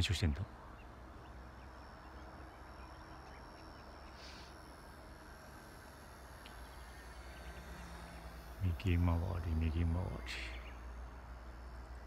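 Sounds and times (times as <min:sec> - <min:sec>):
steady low hiss: 0:00.0 - 0:12.0
toy helicopter whine: 0:01.4 - 0:12.0.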